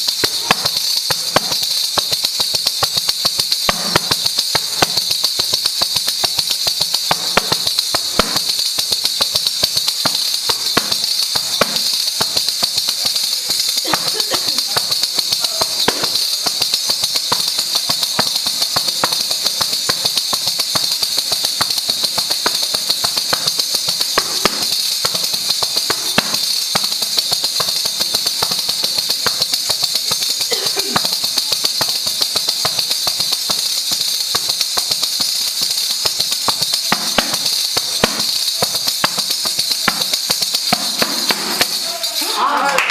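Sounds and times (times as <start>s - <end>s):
frame drum with jingles: 0.0s - 42.7s.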